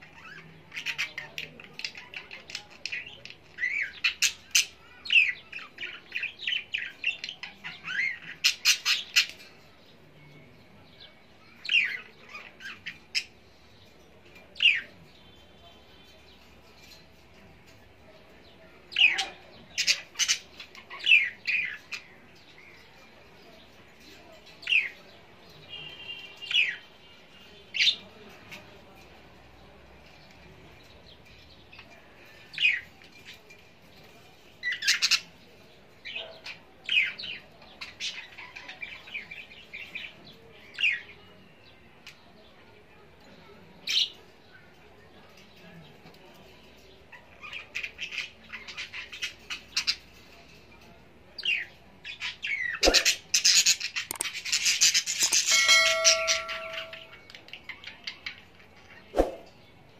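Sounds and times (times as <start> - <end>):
birds chirping and squawking: 0.0 - 43.2, 43.8 - 59.9.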